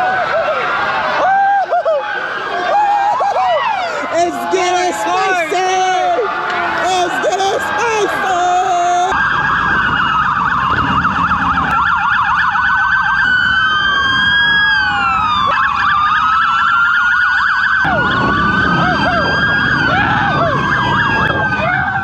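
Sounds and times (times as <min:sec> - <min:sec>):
police sirens: 0:00.0 - 0:22.0.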